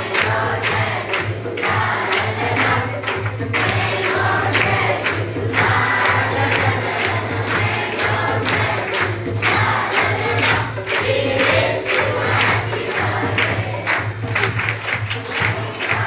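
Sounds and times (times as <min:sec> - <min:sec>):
children clapping hands: 0:00.0 - 0:16.0
children singing together: 0:00.0 - 0:16.0.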